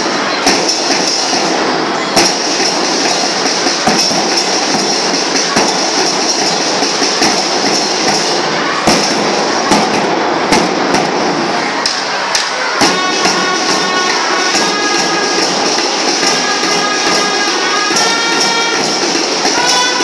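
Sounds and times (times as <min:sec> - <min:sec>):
wind instruments holding notes: 0:00.0 - 0:10.2, 0:10.8 - 0:20.0
heavy accented drum strokes: 0:00.0 - 0:20.0
snare drum rattle: 0:00.0 - 0:20.0.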